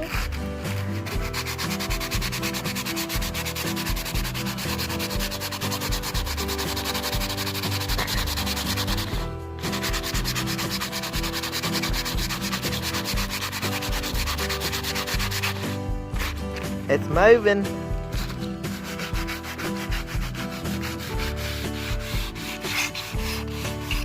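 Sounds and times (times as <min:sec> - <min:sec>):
aluminum scrubbing rusty blade: 0:00.0 - 0:16.8, 0:18.0 - 0:24.0.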